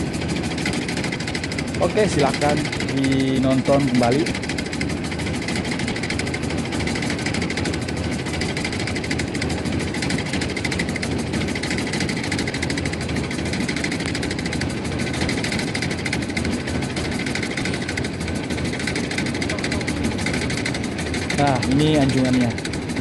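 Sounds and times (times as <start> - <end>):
motorboat engine running: 0.0 - 23.0.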